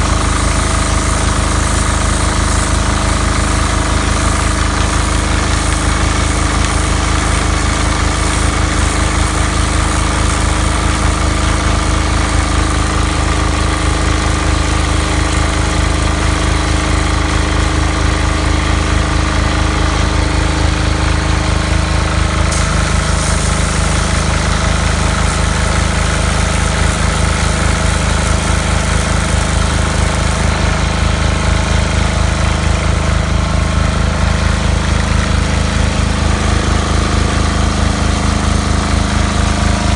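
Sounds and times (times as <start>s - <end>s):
pressure washer pulsing: 0.0s - 39.9s.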